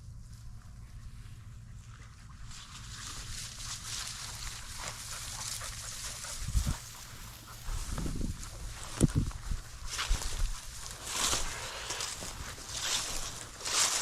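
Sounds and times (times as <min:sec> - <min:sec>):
dry grass and brush rustling: 0:00.0 - 0:14.0.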